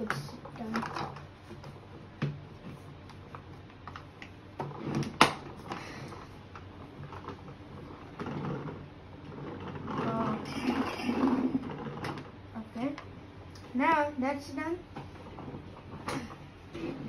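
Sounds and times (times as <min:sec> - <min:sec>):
plastic rubbing: 0:00.0 - 0:13.0, 0:14.7 - 0:17.0.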